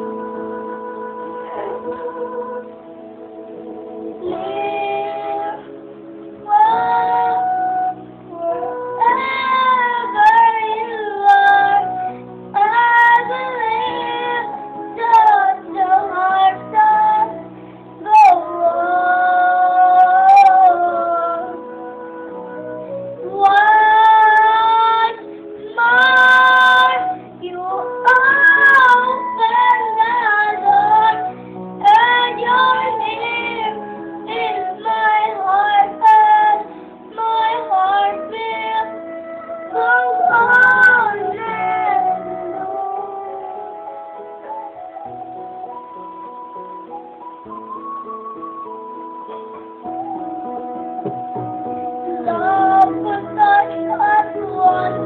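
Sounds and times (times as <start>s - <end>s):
girl singing: 0.0s - 5.8s, 6.4s - 17.4s, 18.0s - 44.1s, 51.9s - 55.0s
instrumental accompaniment: 0.0s - 55.0s.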